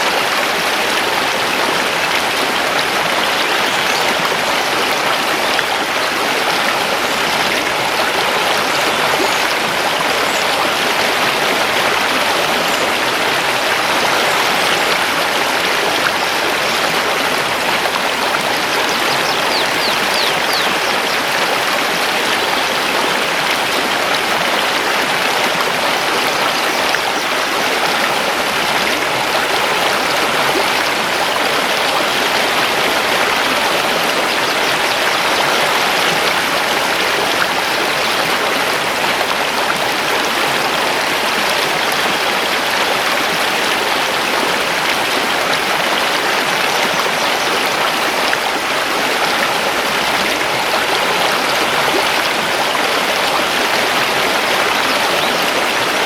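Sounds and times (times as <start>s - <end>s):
river rushing over stones: 0.0s - 56.0s.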